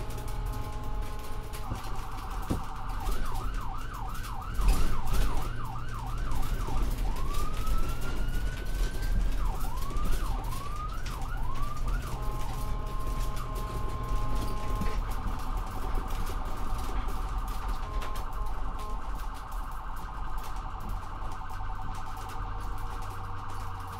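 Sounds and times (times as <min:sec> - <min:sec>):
electronic siren: 0:00.0 - 0:23.9.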